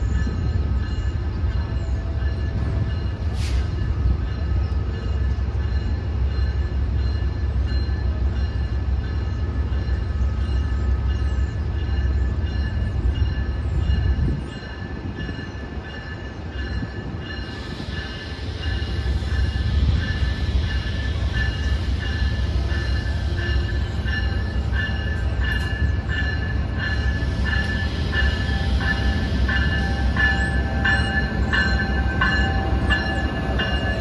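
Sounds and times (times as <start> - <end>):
high-pitched locomotive whine: 0.0 - 34.0
train low rumble: 0.0 - 34.0.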